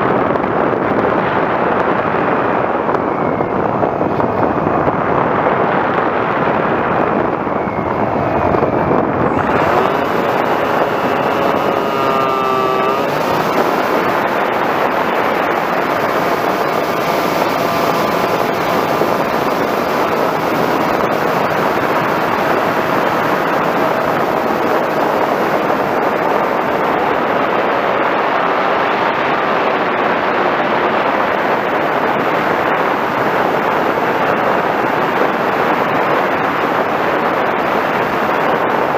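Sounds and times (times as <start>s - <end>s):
electric motor and propeller whine: 0.0s - 38.9s
wind rushing over microphone: 0.0s - 38.9s.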